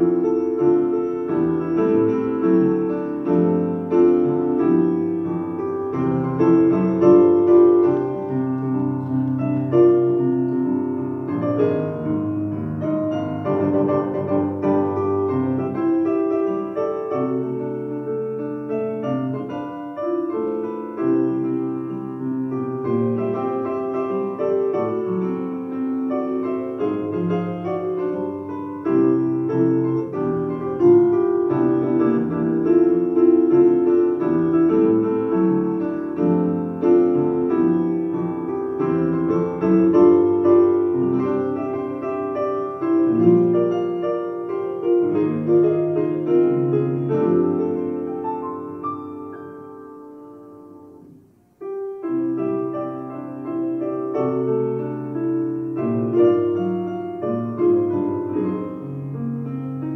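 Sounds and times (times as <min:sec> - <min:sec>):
piano playing slow piece: 0:00.0 - 0:59.9.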